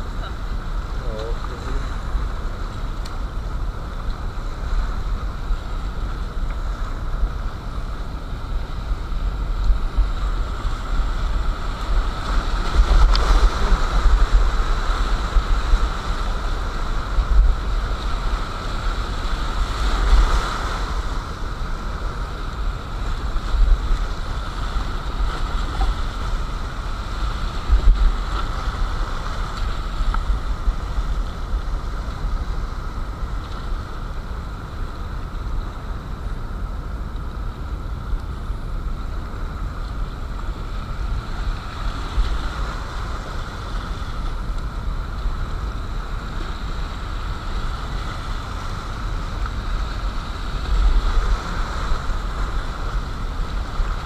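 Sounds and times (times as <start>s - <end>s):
low rumbling wind buffet on microphone: 0.0s - 54.0s
whitewater rushing over rapids: 0.0s - 54.0s.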